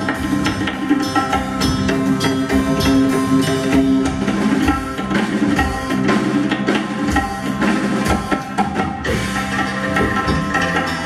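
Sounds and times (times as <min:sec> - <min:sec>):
rapid hand percussion: 0:00.0 - 0:11.0.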